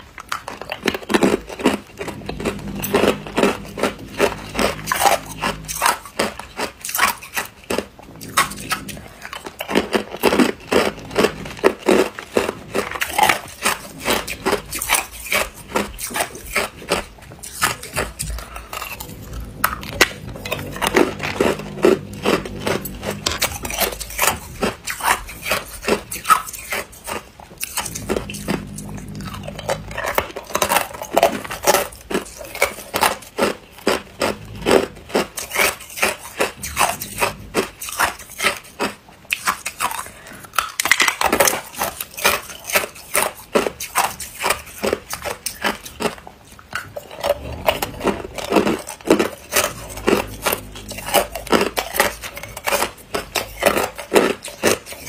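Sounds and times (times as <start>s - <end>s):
ice cubes crunching: 0.0s - 55.0s.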